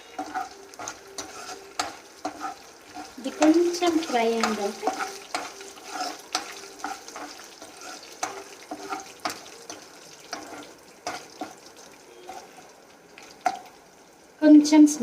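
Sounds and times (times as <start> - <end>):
spoon scraping a pan: 0.0 - 11.6, 12.2 - 12.7
spices sizzling in oil: 0.0 - 15.0.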